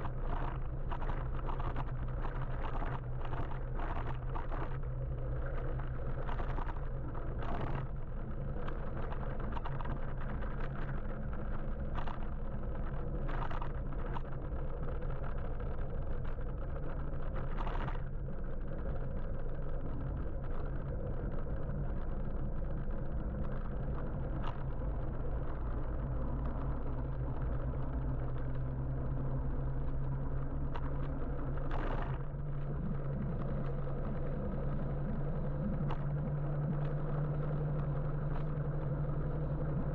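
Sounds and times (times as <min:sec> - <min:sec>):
motorbike electric hum: 0:00.0 - 0:39.9
road and wind noise: 0:00.0 - 0:39.9.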